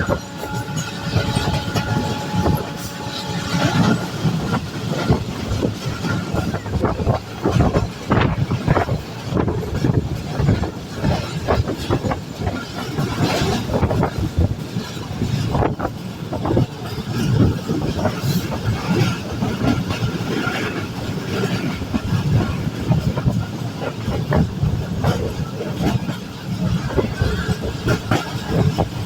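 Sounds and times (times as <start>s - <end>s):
train wheels clattering on rails: 0.0s - 29.0s.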